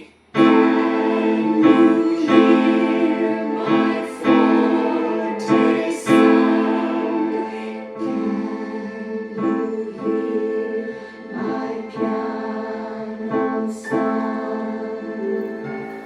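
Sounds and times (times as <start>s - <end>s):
piano chords ringing: 0.4s - 16.0s.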